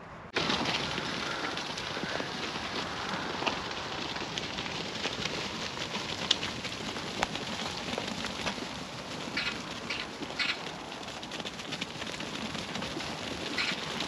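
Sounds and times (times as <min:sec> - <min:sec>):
crackling rustling noise: 0:00.2 - 0:14.0.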